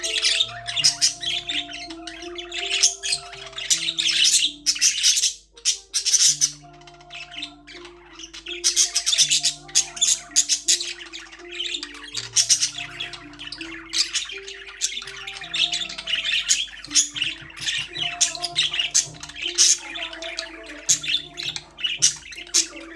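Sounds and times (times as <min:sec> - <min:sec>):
budgerigars chirping and chattering: 0:00.0 - 0:22.9
slow low-note background music: 0:00.0 - 0:22.9.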